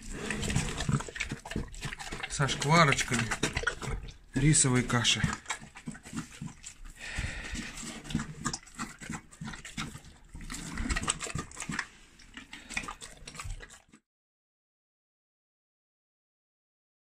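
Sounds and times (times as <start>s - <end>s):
bear eating wet noises: 0.0s - 14.0s.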